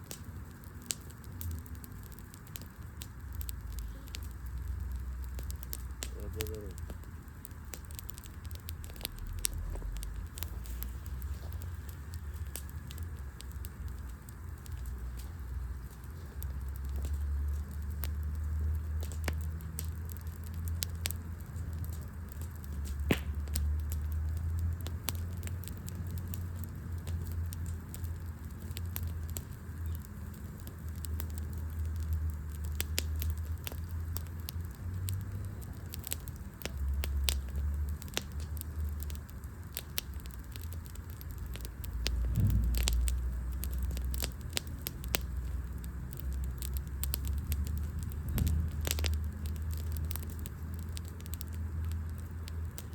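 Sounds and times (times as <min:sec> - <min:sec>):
crackles and pops of burning wood: 0:00.0 - 0:52.9
low fire rumble: 0:00.0 - 0:52.9.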